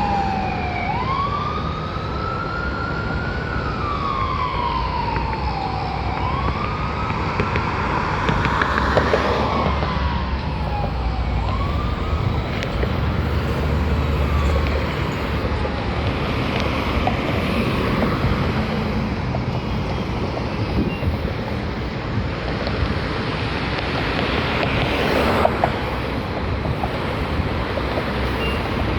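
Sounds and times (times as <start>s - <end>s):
emergency vehicle siren wailing: 0.0s - 28.9s
traffic rumble and road noise: 0.0s - 28.9s.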